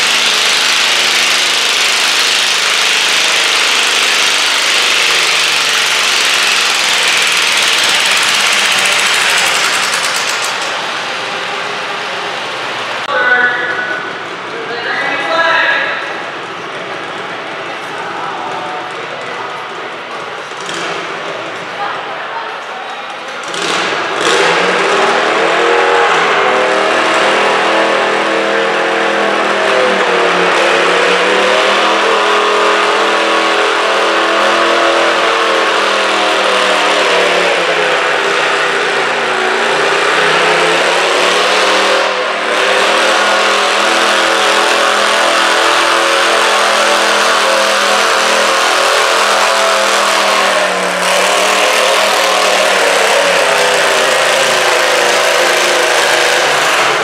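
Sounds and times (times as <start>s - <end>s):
garden tractor engine labouring: 0.0s - 13.4s, 23.5s - 57.0s.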